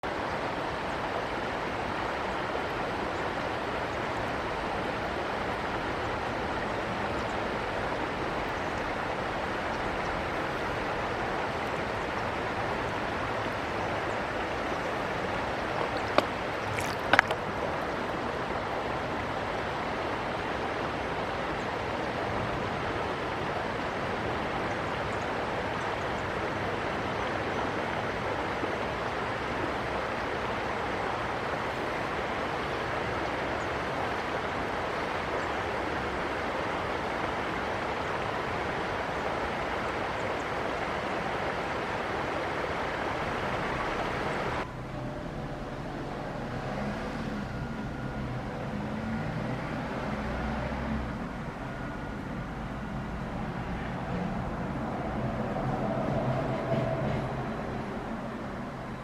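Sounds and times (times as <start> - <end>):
flowing river water: 0.0 - 59.0.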